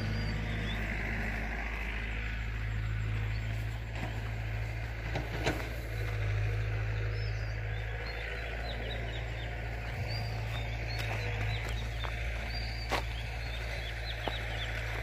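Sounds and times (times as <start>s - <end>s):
machine engine humming: 0.0s - 15.0s
small birds chirping: 0.0s - 15.0s.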